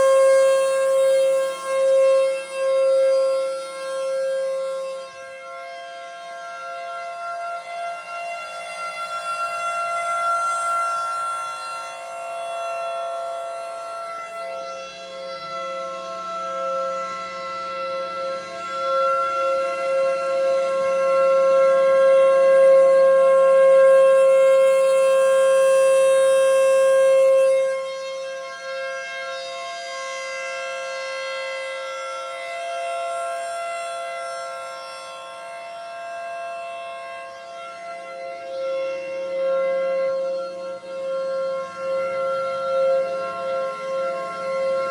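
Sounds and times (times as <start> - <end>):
tornado sirens wailing: 0.0 - 44.9.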